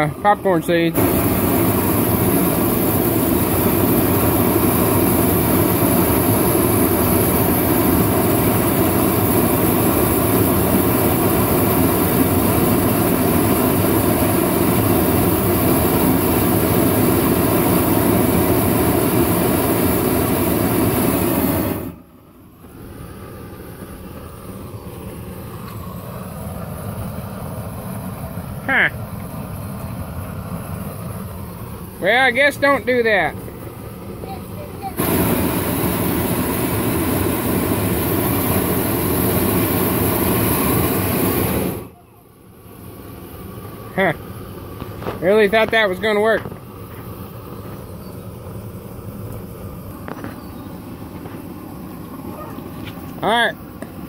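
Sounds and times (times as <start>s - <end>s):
propane torch burner roaring: 0.0s - 54.0s.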